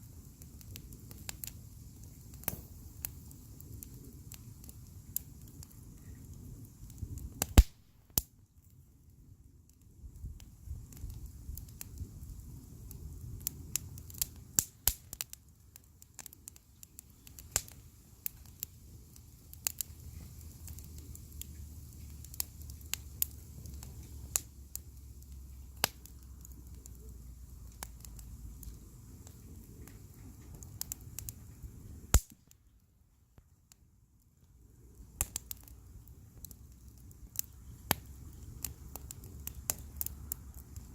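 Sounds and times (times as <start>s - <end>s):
low fire rumble: 0.0s - 40.9s
wood fire crackling and popping: 0.0s - 40.9s.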